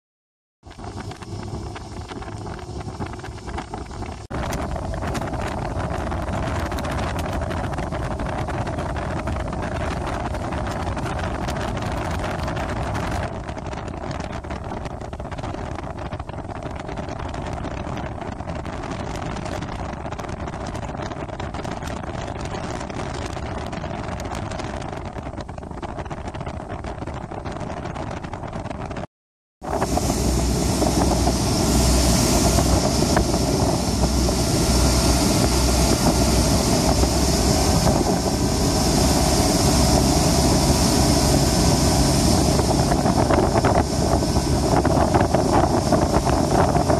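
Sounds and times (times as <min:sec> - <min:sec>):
speedboat engine running: 0:00.6 - 0:29.0, 0:29.6 - 0:46.9
water rushing past hull: 0:00.6 - 0:29.0, 0:29.6 - 0:46.9
wind on microphone: 0:00.6 - 0:46.9.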